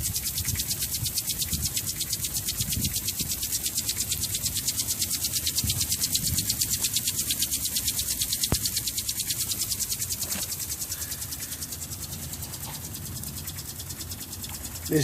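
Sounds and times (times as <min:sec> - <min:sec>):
spinning water nozzle pulsing hiss: 0:00.0 - 0:15.0.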